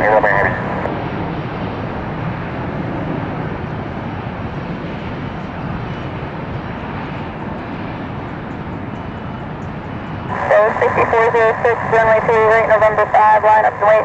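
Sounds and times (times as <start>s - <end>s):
distant jet engine rumble: 0.0s - 14.0s.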